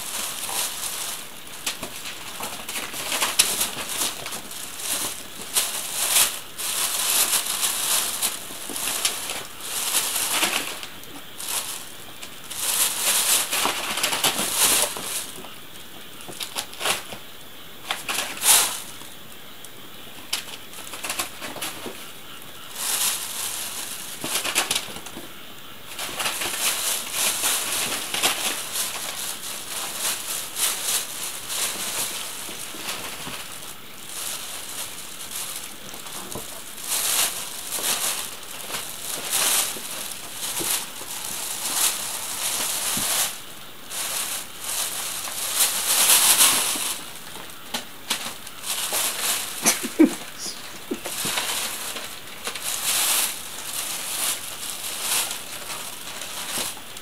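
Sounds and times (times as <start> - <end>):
plastic bag crinkling: 0.0 - 15.5, 22.7 - 25.3, 25.9 - 57.0.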